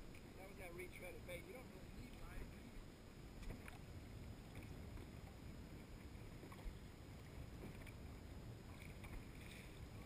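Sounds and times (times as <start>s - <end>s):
wind and water noise: 0.0s - 10.0s.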